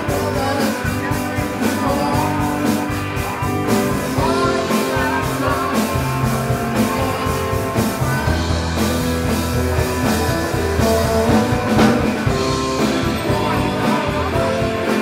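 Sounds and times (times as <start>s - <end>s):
drum kit: 0.0s - 15.0s
electric bass guitar: 0.0s - 15.0s
electric guitars: 0.0s - 15.0s.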